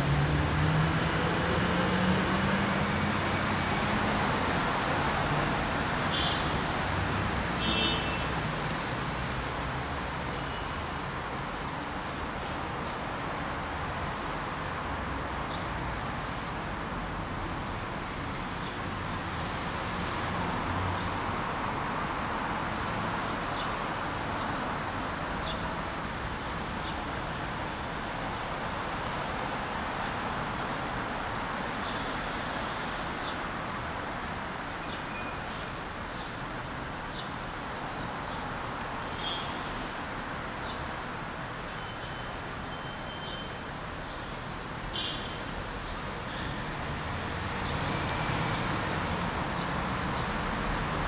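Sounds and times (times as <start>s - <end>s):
road traffic hum: 0.0s - 51.0s.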